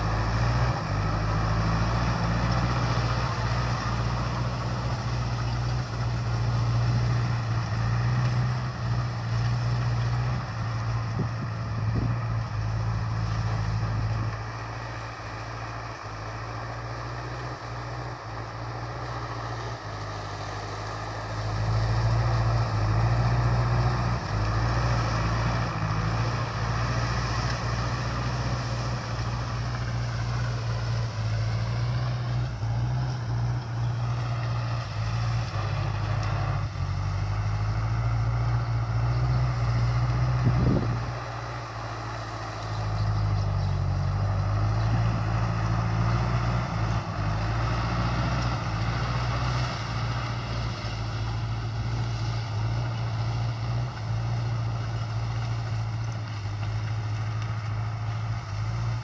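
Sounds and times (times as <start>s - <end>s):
diesel tractor engine under load: 0.0s - 59.0s.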